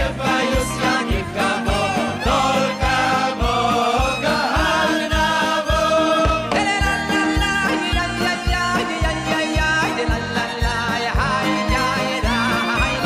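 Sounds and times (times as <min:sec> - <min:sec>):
live band music: 0:00.0 - 0:13.0
person singing: 0:00.0 - 0:13.0
steady drum beat: 0:00.0 - 0:13.0.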